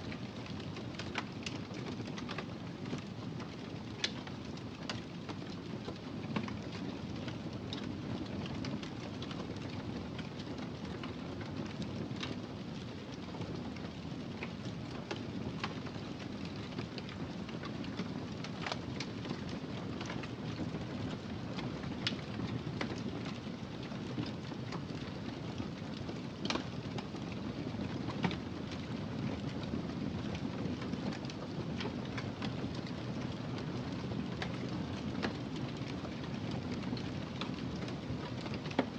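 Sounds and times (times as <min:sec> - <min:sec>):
fire crackling and popping: 0:00.1 - 0:38.9
fire rumbling and hissing: 0:00.1 - 0:38.9.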